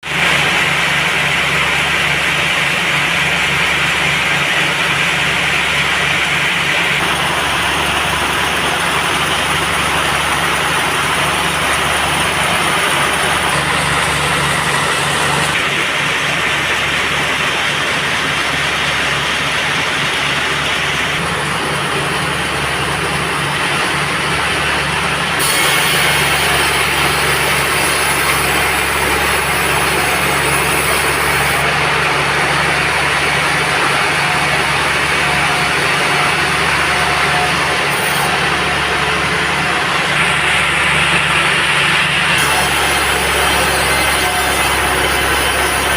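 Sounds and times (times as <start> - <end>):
heavy engine running: 0.0 - 45.9.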